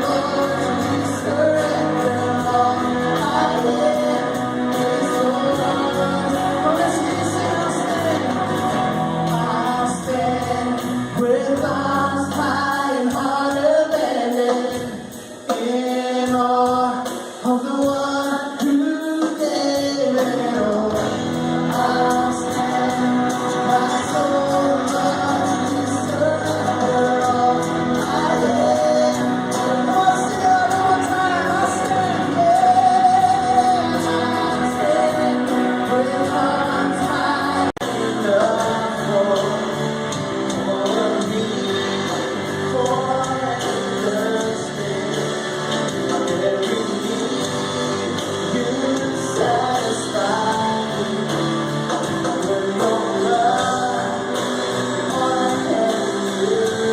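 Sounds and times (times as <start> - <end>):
band playing: 0.0 - 56.9
voices singing together: 0.0 - 56.9.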